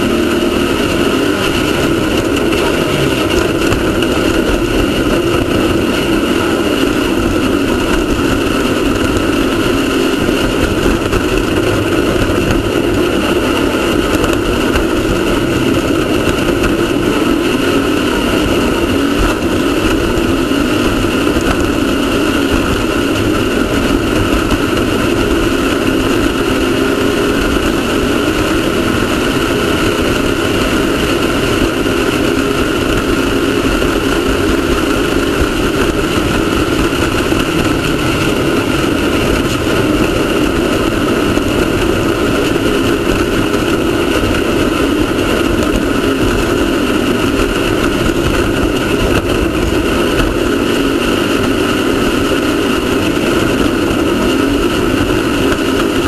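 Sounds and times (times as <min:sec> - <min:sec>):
race car engine running: 0:00.0 - 0:56.0
wind and driving noise: 0:00.0 - 0:56.0.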